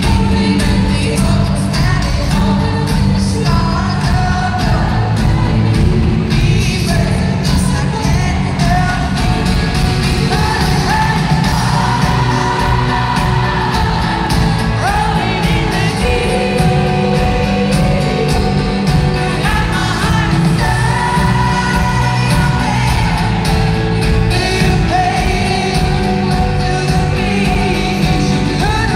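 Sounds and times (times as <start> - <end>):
female singer: 0.0 - 28.9
live pop band over pa: 0.0 - 28.9.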